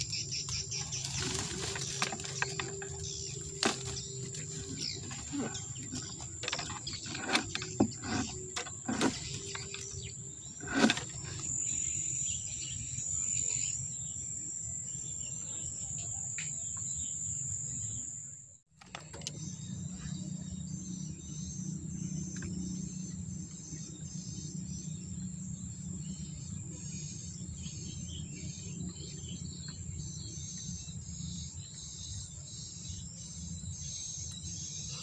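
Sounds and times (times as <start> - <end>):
steady low hum: 0.0 - 15.8, 19.0 - 35.0
crickets chirring: 0.0 - 35.0.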